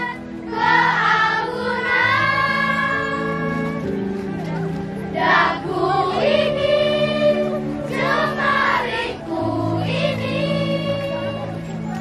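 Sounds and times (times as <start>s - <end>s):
choir singing: 0.0s - 3.8s, 5.1s - 11.5s.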